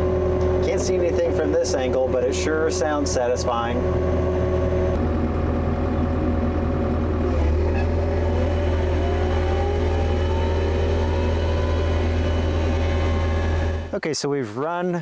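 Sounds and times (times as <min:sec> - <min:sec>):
diesel engine droning: 0:00.0 - 0:14.0
faint rising whine: 0:00.0 - 0:14.0.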